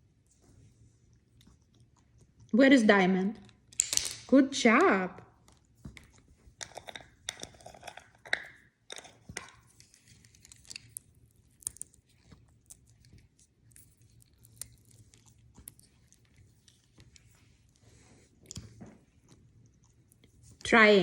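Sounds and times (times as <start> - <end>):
parrot crunching food: 0.7 - 2.6, 5.1 - 20.6.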